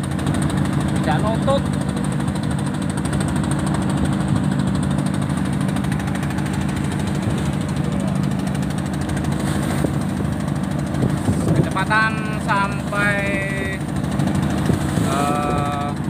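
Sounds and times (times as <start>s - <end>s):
boat diesel engine droning: 0.0s - 16.0s
water rushing along hull: 0.0s - 16.0s.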